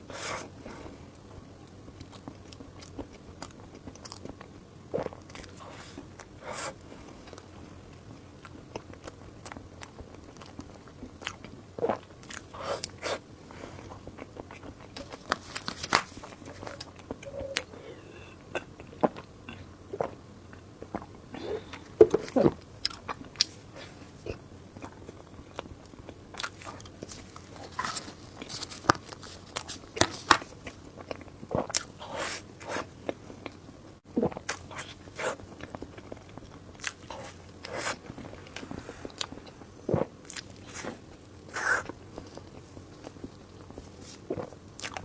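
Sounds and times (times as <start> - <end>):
person chewing food: 2.0 - 45.0.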